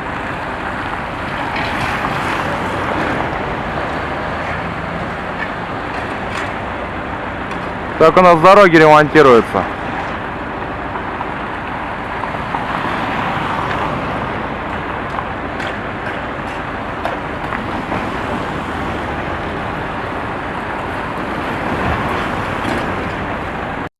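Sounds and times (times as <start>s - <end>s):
vehicle and road noise: 0.0s - 23.9s.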